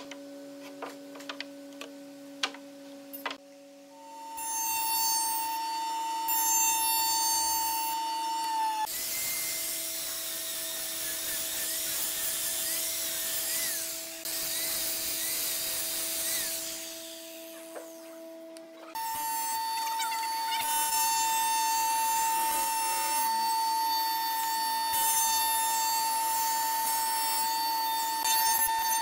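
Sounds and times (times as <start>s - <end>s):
angle grinder on wood: 4.2s - 29.0s.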